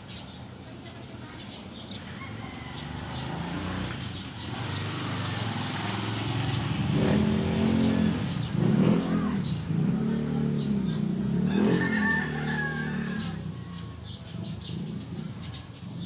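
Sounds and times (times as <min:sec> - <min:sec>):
vehicle engine passing and revving: 0:02.2 - 0:16.0.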